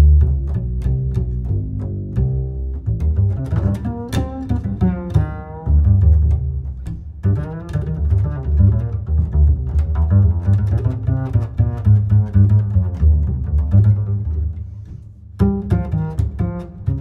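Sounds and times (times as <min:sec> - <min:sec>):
instrumental music with deep bass: 0:00.0 - 0:17.0
plucked string notes: 0:00.0 - 0:17.0.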